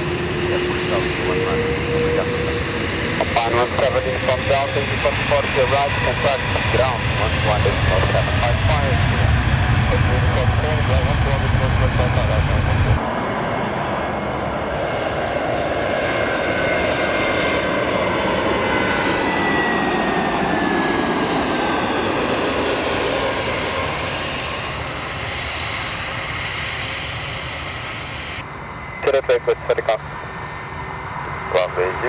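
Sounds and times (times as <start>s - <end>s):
jet engine whine: 0.0s - 32.0s
jet engines roaring: 0.0s - 32.0s.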